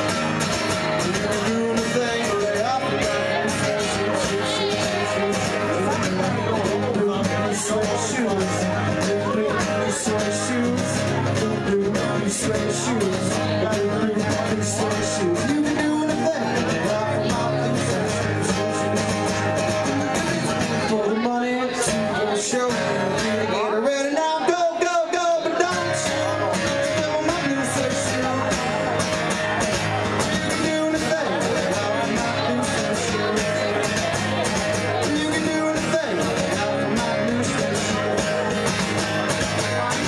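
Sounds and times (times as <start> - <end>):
acoustic guitar strumming: 0.0 - 40.0
man singing: 0.0 - 40.0.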